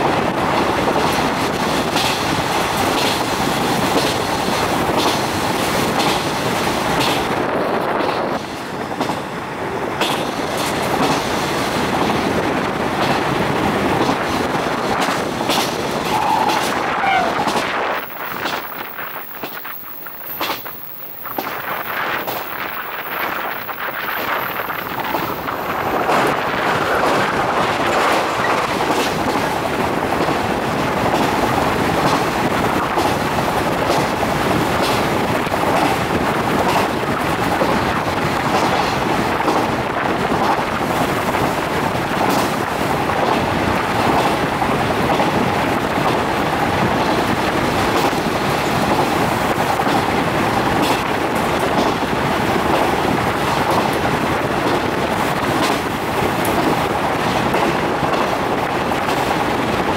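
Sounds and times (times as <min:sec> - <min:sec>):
train running noise from inside: 0:00.0 - 0:59.9
wheels clicking on track: 0:10.0 - 0:59.9.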